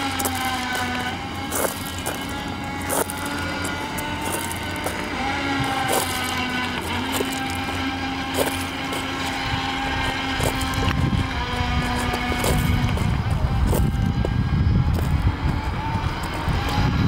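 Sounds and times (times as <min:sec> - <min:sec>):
low wind rumble: 0:00.0 - 0:17.0
model speedboat motor whining: 0:00.0 - 0:17.0.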